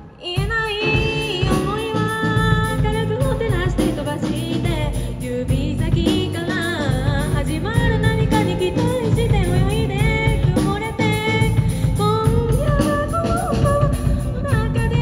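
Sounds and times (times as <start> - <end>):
electric bass: 0.0 - 15.0
woman singing: 0.0 - 15.0
drum kit with cymbals: 0.3 - 15.0.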